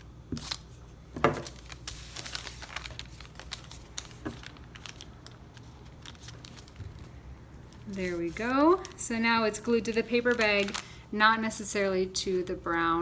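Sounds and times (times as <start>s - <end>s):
paper rustling and crinkling: 0.3s - 11.0s.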